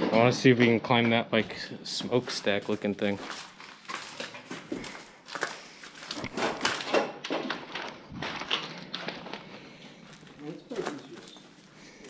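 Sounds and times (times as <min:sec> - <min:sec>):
footsteps crunching on debris: 0:00.2 - 0:12.0.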